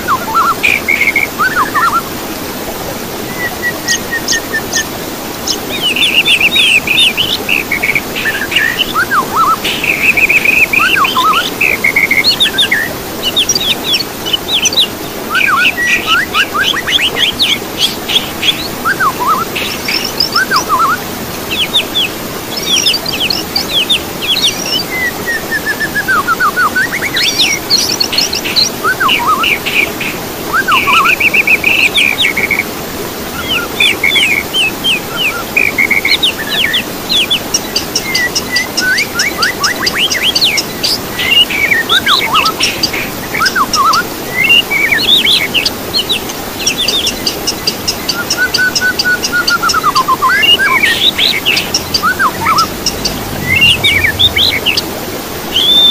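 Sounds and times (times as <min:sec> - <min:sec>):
songbird singing: 0:00.0 - 0:02.2, 0:03.2 - 0:32.7, 0:33.3 - 0:55.9.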